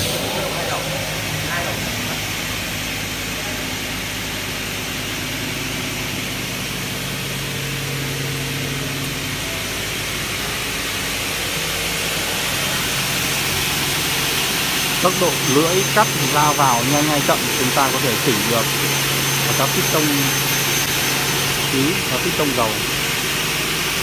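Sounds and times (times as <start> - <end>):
cutting saw motor hum and hiss: 0.0 - 24.0.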